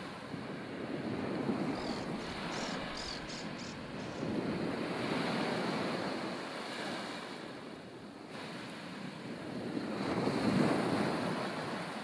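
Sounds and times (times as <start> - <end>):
sea waves washing onto beach: 0.0 - 12.0
wind: 0.0 - 12.0.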